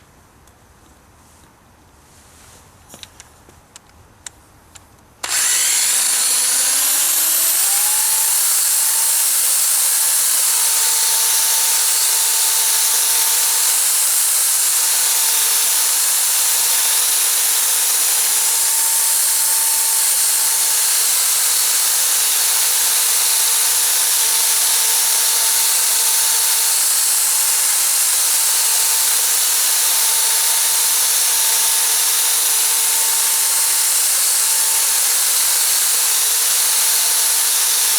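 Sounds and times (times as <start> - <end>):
electric drill whining: 5.2 - 37.9.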